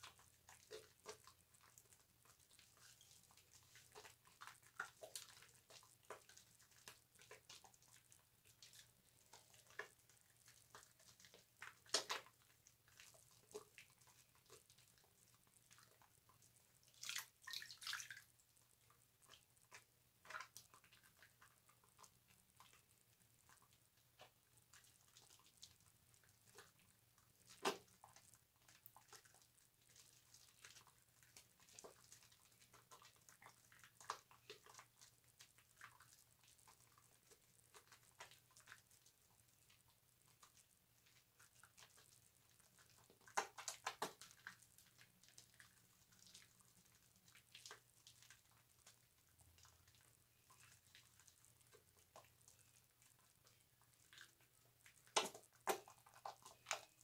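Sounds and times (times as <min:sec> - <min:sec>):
soap lathering on a loofah: 0:00.0 - 0:57.0.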